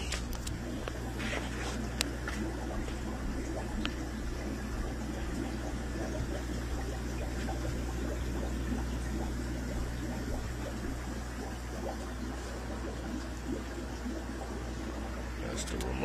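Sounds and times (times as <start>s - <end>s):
aquarium air pump hum: 0.0s - 16.0s
filter bubbling: 0.0s - 16.0s.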